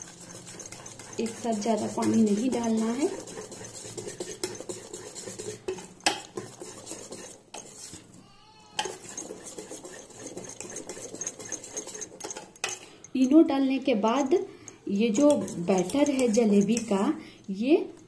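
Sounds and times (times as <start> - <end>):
whisk beating batter in metal bowl: 0.0 - 8.1, 8.8 - 12.6, 14.1 - 17.2.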